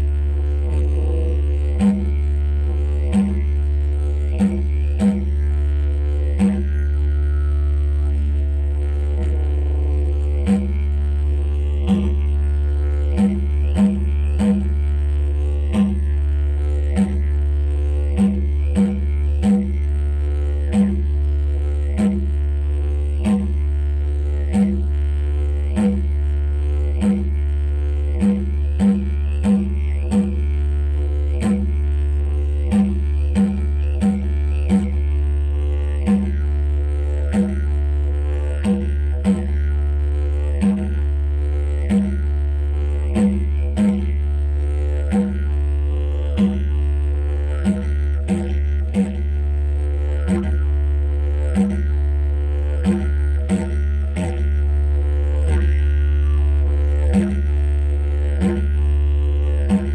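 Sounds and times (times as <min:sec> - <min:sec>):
didgeridoo drone: 0:00.0 - 0:59.9.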